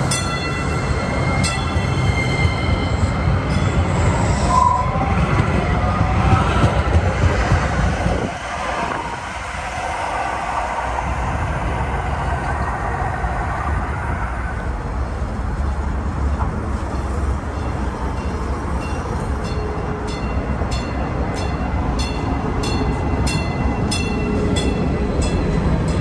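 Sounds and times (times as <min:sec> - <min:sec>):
train low rumble: 0:00.0 - 0:26.0
train rushing past: 0:00.0 - 0:26.0.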